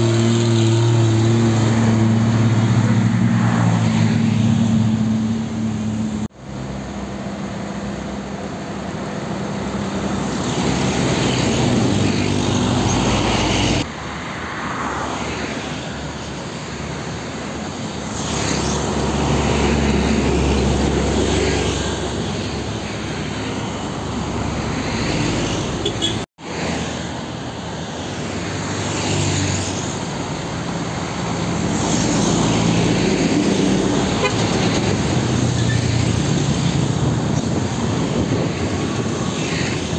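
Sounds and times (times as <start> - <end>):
diesel trucks passing: 0.0 - 39.9
motorcycles and cars passing: 0.0 - 39.9.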